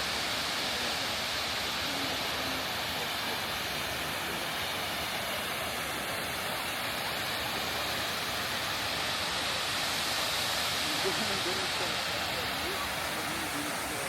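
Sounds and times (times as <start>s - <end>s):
fast-flowing water rushing: 0.0s - 14.0s.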